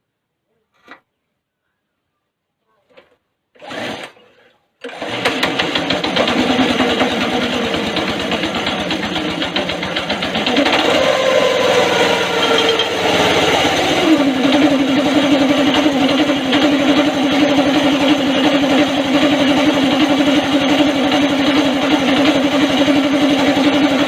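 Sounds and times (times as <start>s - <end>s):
small petrol engine running: 3.6s - 24.0s.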